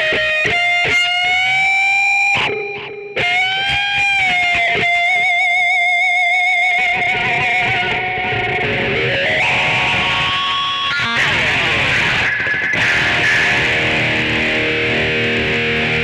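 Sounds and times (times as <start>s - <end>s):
electric guitar lead: 0.0s - 16.0s.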